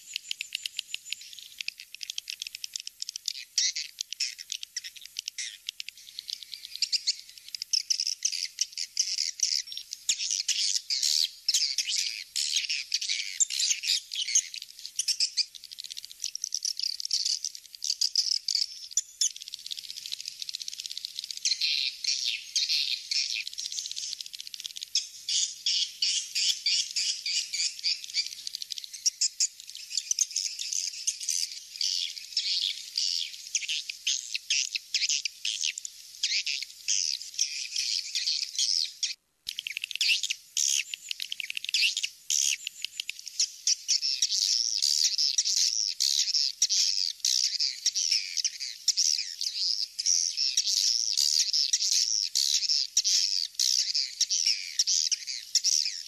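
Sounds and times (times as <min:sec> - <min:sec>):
high-pitched bird twittering chirps: 0:00.0 - 0:56.0.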